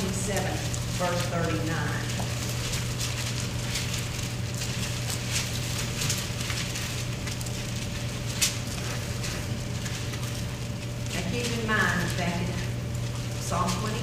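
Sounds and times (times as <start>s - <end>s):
electrical hum: 0.0s - 14.0s
paper pages rustling: 0.0s - 14.0s.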